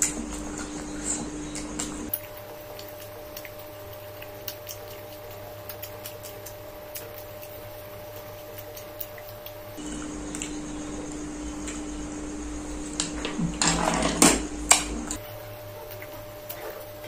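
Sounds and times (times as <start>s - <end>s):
wet chewing sounds: 0.0s - 11.9s, 15.1s - 17.0s
faint steady hum: 0.0s - 17.0s.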